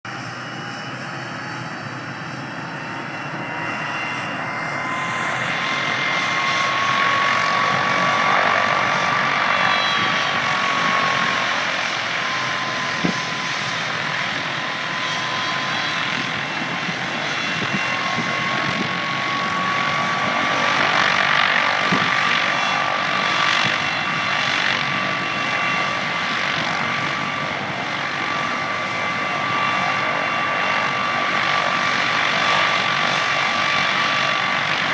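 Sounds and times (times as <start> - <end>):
helicopter lifting off: 0.1 - 34.9.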